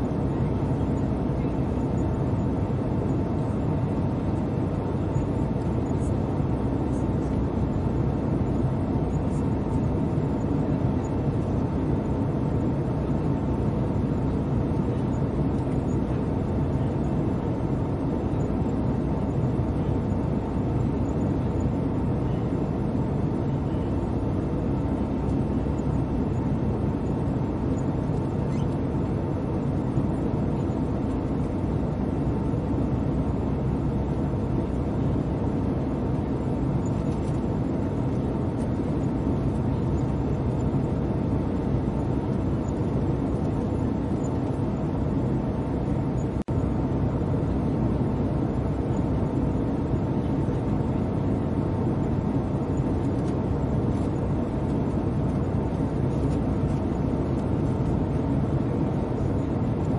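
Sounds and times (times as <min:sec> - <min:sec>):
airliner cabin engine rush: 0:00.0 - 0:59.9
faint steady whine: 0:00.0 - 0:59.9.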